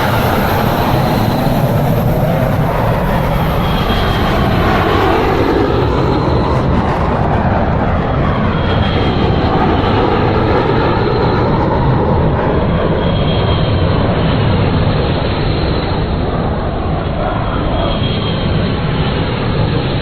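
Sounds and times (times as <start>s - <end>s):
aeroplane engines running: 0.0s - 20.0s.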